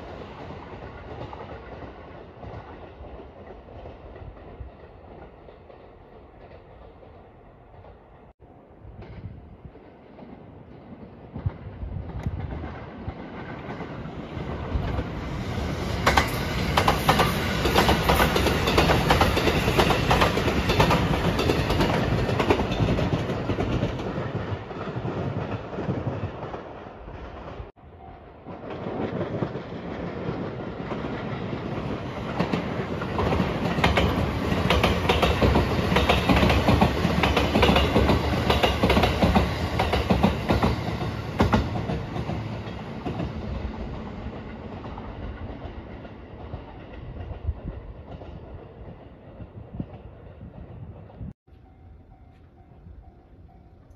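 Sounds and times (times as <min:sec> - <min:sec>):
electric trains running past: 0:00.0 - 0:53.9.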